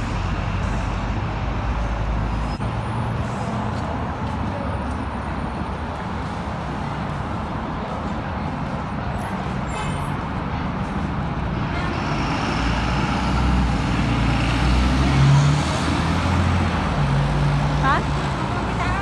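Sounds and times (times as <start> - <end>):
diesel engine rumble: 0.0 - 19.0
road traffic noise: 0.0 - 19.0.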